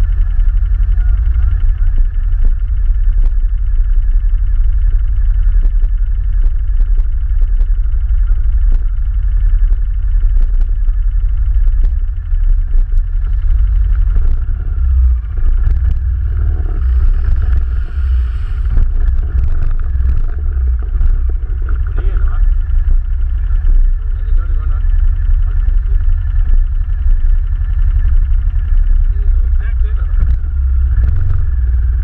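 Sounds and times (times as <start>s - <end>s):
engine running with rumble: 0.0s - 32.0s.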